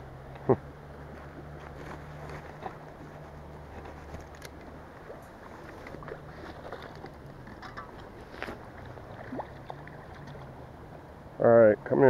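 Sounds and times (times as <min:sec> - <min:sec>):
shallow river water splashing: 0:00.0 - 0:11.4.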